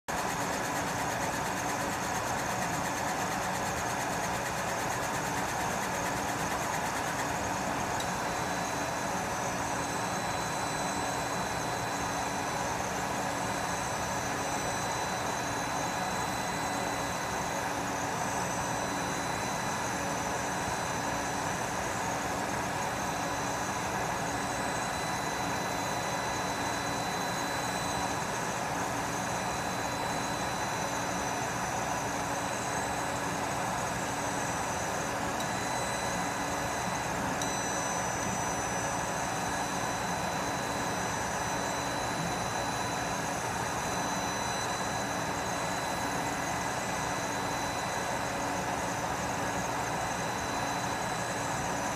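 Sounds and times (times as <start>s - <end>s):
laser cutter hum and air rush: 0.1s - 51.9s.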